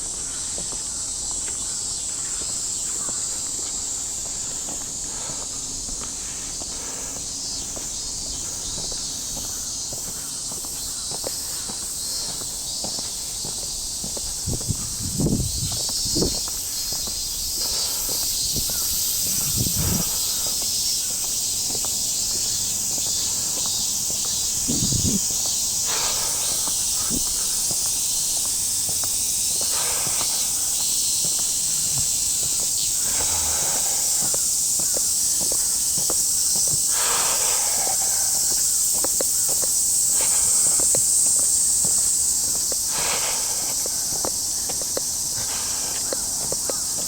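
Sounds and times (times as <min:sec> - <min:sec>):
cicadas chorusing: 0:00.0 - 0:47.0
footsteps walking: 0:00.0 - 0:47.0.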